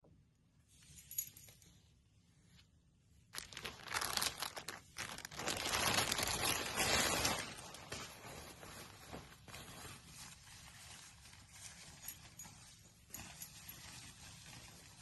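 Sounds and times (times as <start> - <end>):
material crinkling and rustling: 0.7 - 15.0.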